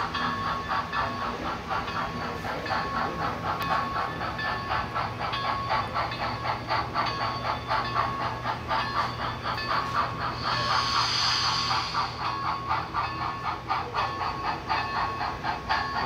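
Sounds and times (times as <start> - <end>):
rhythmic steam exhaust chuffs: 0.0 - 16.0.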